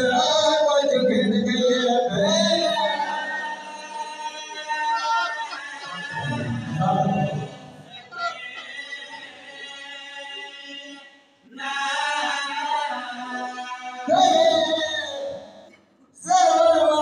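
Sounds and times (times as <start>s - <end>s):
slow vocal chanting: 0.0s - 17.0s.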